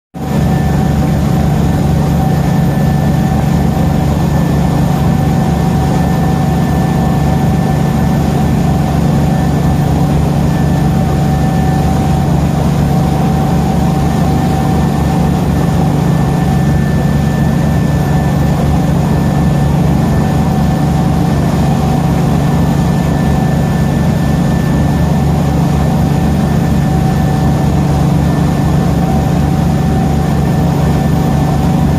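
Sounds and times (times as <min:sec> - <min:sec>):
boat engine drone: 0:00.2 - 0:31.9
faint engine whine: 0:00.2 - 0:31.9.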